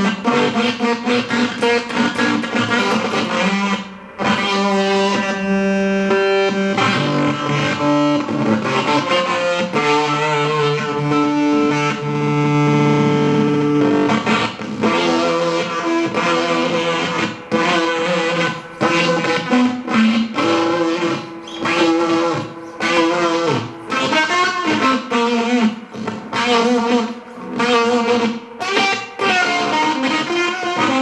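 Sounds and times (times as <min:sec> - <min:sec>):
fuzzed electric guitar: 0:00.0 - 0:31.0.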